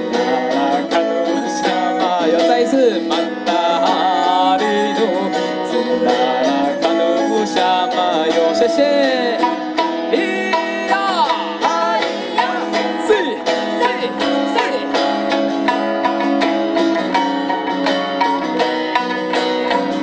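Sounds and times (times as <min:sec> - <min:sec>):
acoustic guitar: 0:00.0 - 0:20.0
plucked strings: 0:00.0 - 0:20.0
sliding melody line: 0:00.0 - 0:20.0.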